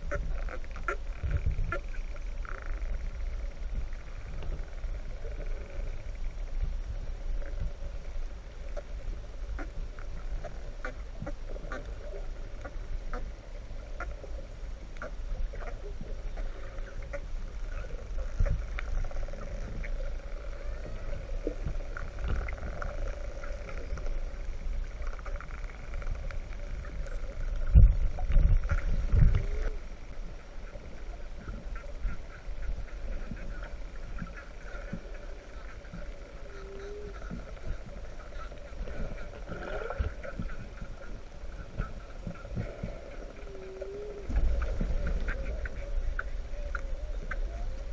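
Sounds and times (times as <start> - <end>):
underwater rumble of moving water: 0.0 - 47.9.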